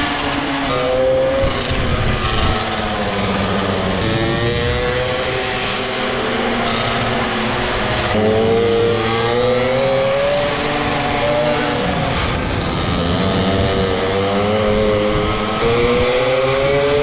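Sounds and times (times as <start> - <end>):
louder motorbike engine climbing: 0.0 - 17.0
mini motorbike engines revving: 0.0 - 17.0.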